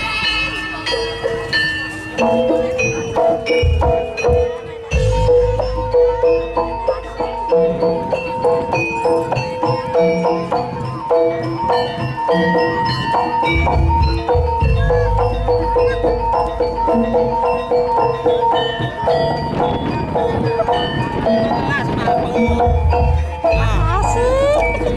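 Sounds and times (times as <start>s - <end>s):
gamelan metallophones and gong-chimes: 0.0s - 24.9s.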